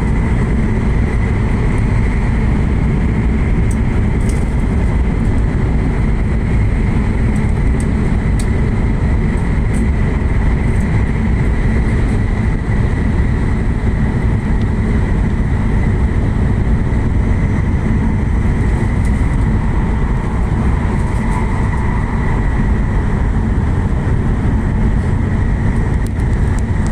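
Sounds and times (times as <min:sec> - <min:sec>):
train interior rumble: 0:00.0 - 0:26.9.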